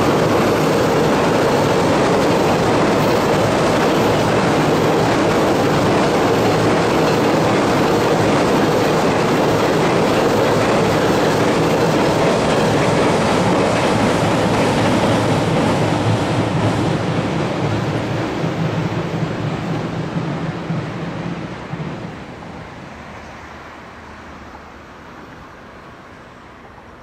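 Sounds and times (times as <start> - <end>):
freight train clattering over bridge: 0.0 - 27.0.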